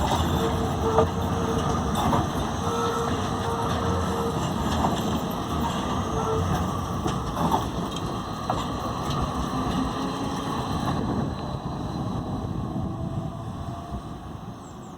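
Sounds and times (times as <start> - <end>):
rail clicks: 0.0 - 12.3
train wheel and rail rumble: 0.0 - 14.9.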